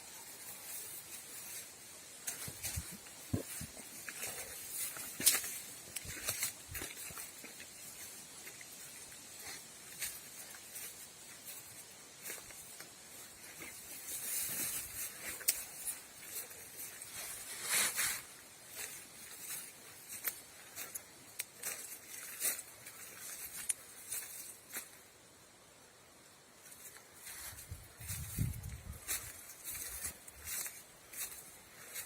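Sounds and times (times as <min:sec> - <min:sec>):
undergrowth rustling and crackling: 0:00.0 - 0:25.2, 0:26.6 - 0:32.0.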